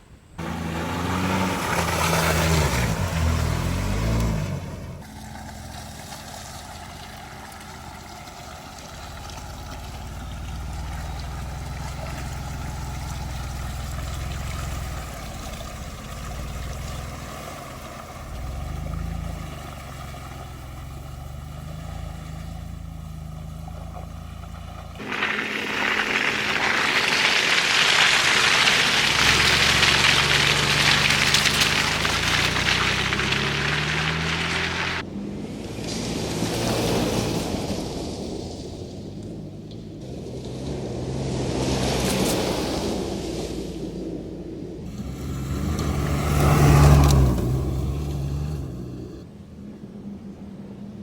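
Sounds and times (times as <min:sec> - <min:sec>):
tyres churning through mud and water: 0:00.0 - 0:51.0
engine revving: 0:00.4 - 0:38.2, 0:44.8 - 0:49.3.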